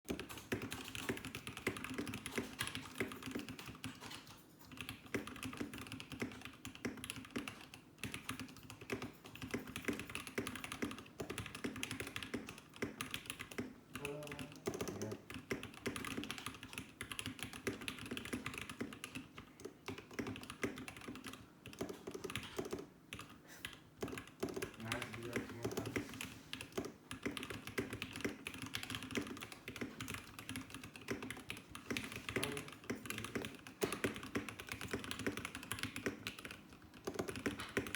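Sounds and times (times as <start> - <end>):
keyboard typing clicks: 0.1 - 37.9.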